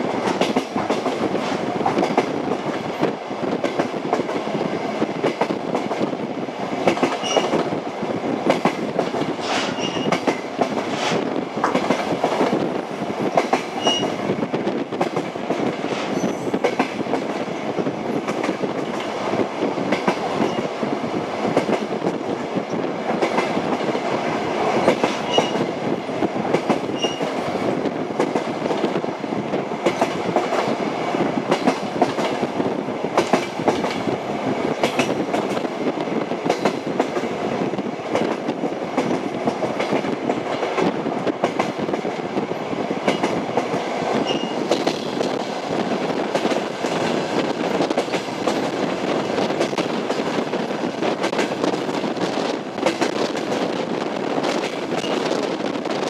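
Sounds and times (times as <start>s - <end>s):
train rolling noise: 0.0s - 56.0s
train wheels clicking on rail joints: 0.0s - 56.0s.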